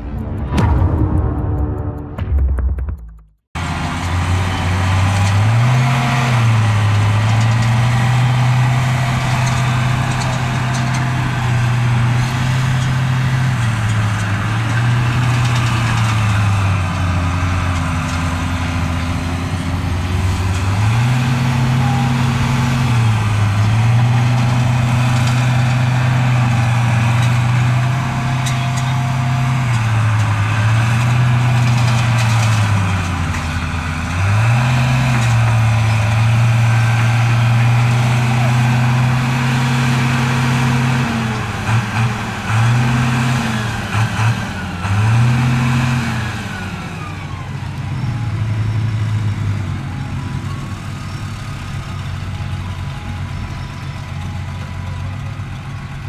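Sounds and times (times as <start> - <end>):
heavy diesel engine running: 0.0 - 3.0, 3.6 - 56.0.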